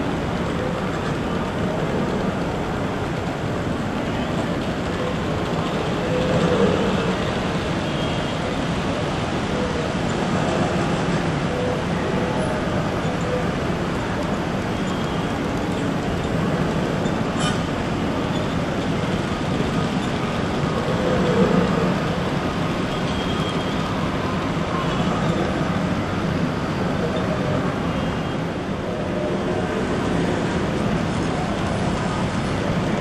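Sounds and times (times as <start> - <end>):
model train wheels rumbling on track: 0.0 - 33.0.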